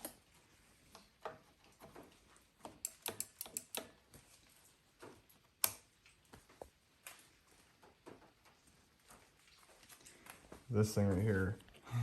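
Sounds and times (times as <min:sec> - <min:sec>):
light clicks and taps: 0:00.0 - 0:11.8.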